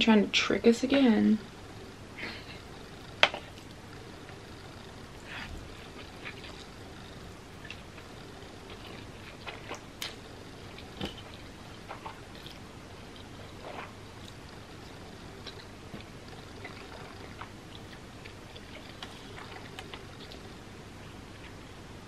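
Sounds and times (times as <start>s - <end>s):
slurping and chewing noodles: 1.8s - 21.6s.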